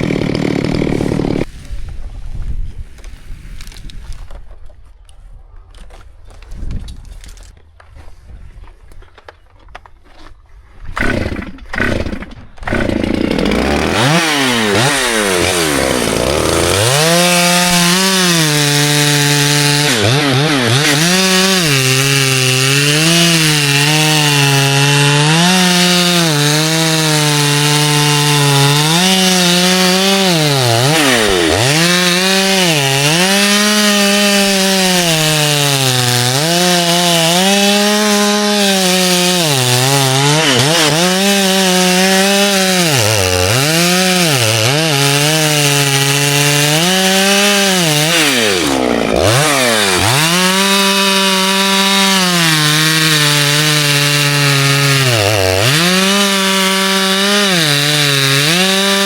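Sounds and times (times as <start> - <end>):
chainsaw cutting wood: 0.0 - 1.5, 10.9 - 59.0.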